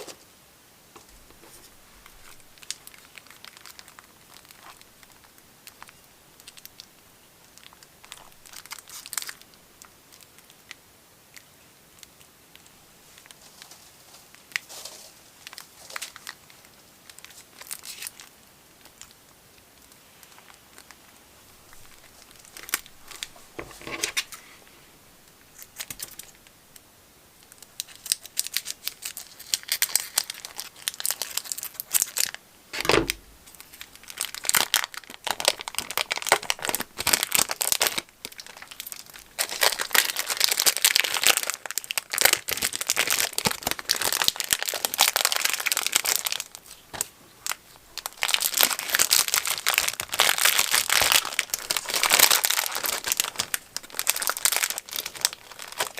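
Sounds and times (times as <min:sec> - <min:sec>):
slime crackling and popping: 0:02.1 - 0:13.4, 0:15.4 - 0:23.4, 0:27.4 - 0:32.4, 0:33.1 - 0:55.9.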